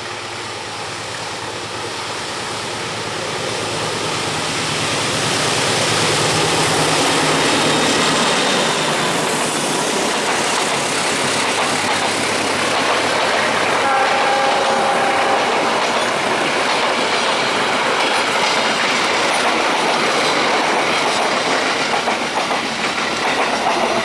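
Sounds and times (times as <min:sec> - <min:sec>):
train approaching on track: 0:00.0 - 0:24.0.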